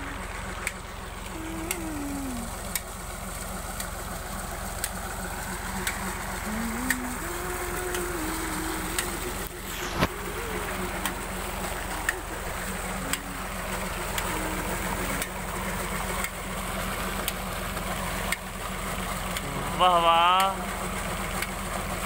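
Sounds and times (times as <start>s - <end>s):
tractor diesel engine running: 0.0s - 22.0s
water gushing into a tank: 0.0s - 22.0s.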